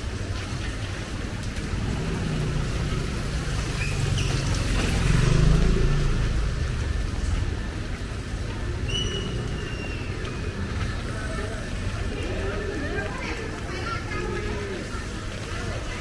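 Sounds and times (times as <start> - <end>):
rain hissing on wet road: 0.0 - 16.0
vehicle engine rumble passing: 0.5 - 16.0.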